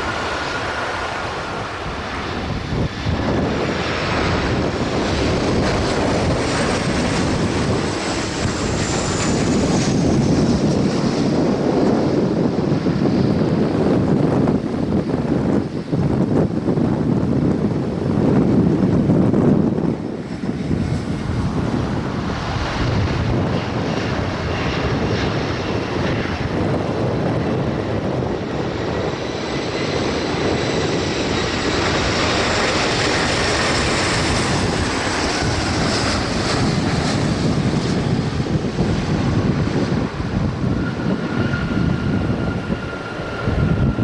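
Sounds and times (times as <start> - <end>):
jet airliner roar: 0.0 - 44.0
jet engine rush with fan whine: 0.0 - 44.0
wind buffeting microphone: 0.0 - 44.0.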